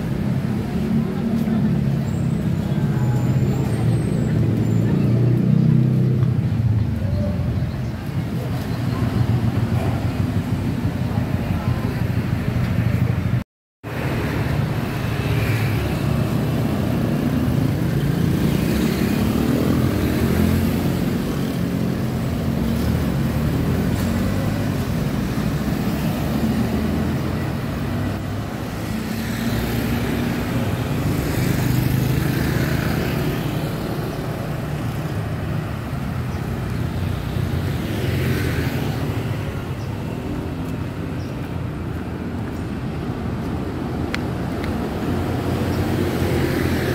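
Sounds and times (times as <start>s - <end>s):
cars and motorcycles passing: 0.0s - 46.9s
low traffic rumble: 0.0s - 46.9s.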